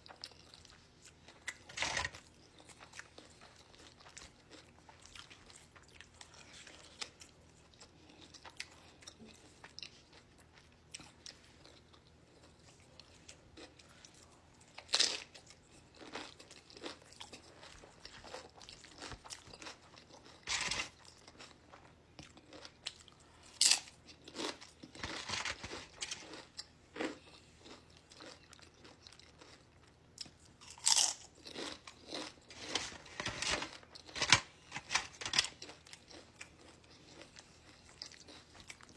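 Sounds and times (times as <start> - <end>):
crunching chips: 0.1 - 14.0, 14.7 - 38.9.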